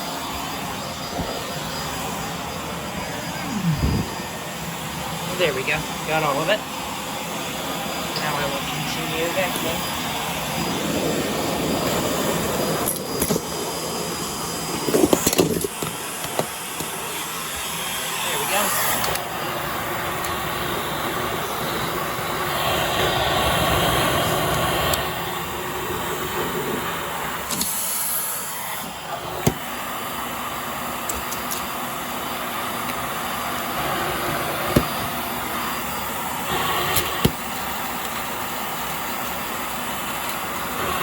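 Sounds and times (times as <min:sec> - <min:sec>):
vacuum cleaner running on carpet: 0:00.0 - 0:41.0.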